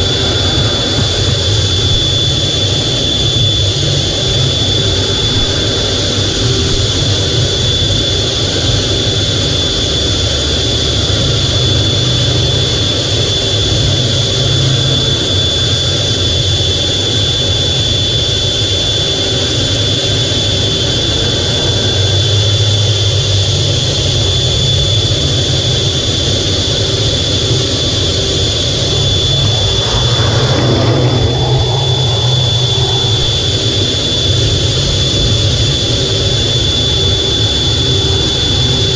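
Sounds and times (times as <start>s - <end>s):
jet engines rumbling with whine: 0.0s - 38.9s.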